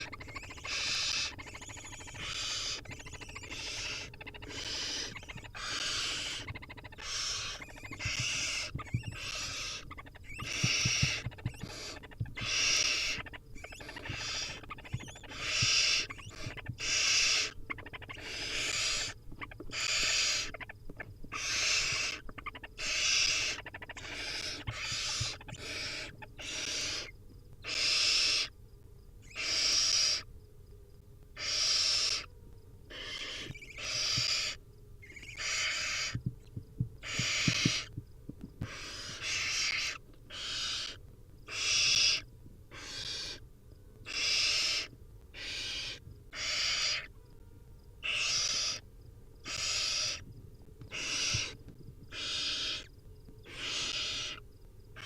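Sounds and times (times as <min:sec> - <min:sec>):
owl chicks hissing begging calls: 0:00.0 - 0:28.6, 0:29.2 - 0:30.3, 0:31.4 - 0:36.2, 0:37.0 - 0:38.0, 0:38.6 - 0:47.1, 0:48.0 - 0:48.8, 0:49.4 - 0:50.2, 0:50.9 - 0:54.4.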